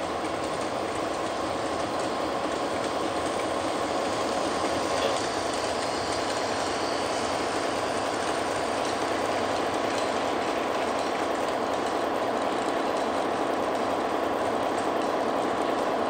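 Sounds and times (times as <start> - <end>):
model train wheels rumbling on track: 0.0 - 16.0.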